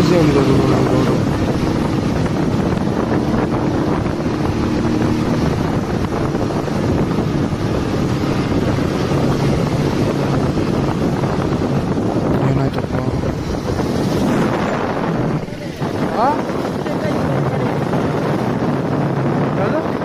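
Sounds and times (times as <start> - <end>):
motorcycle engine running: 0.0 - 19.8
wind buffeting microphone: 0.0 - 20.0.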